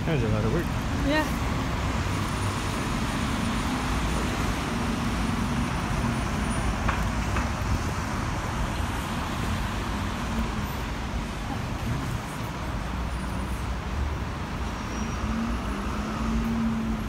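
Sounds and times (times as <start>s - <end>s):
road traffic rush: 0.0s - 17.0s.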